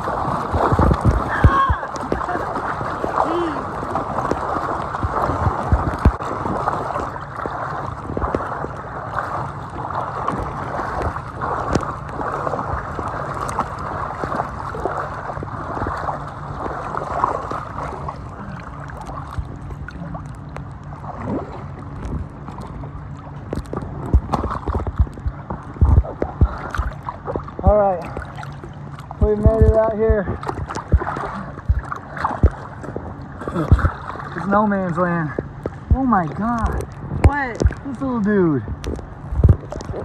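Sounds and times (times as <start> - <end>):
small water splashes: 0.0 - 40.0
water sloshing around raft: 0.0 - 40.0.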